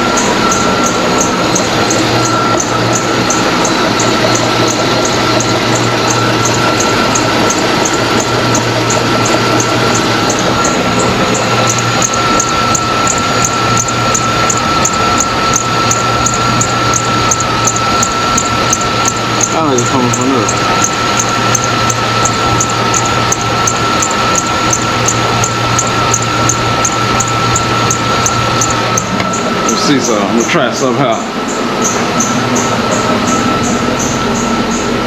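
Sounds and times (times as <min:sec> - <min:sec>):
belt drive whine: 0:00.0 - 0:35.0
truck engine running: 0:00.0 - 0:35.0.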